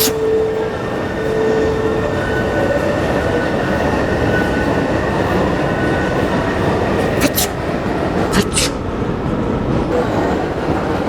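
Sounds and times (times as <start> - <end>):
metro train rumbling: 0.0 - 11.0.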